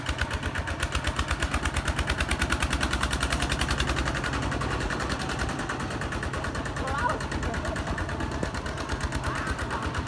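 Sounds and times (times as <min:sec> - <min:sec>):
diesel engine chugging: 0:00.0 - 0:10.0.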